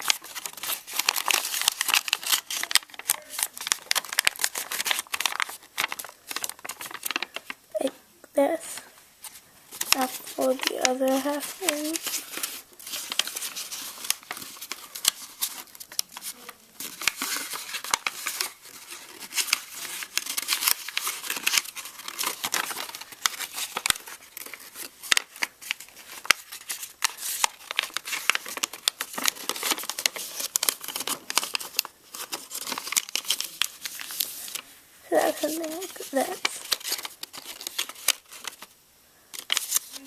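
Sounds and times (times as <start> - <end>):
paper crinkling: 0.0 - 40.0.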